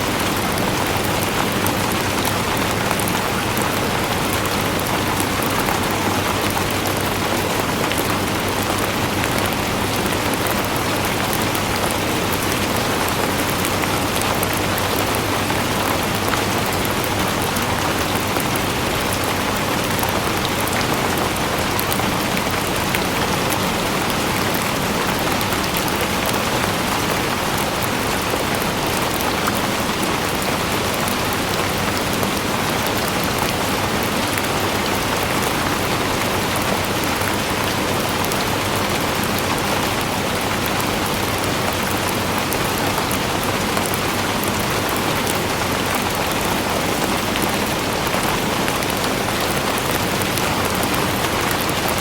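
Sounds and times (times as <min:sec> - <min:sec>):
steady rain patter: 0:00.0 - 0:52.0.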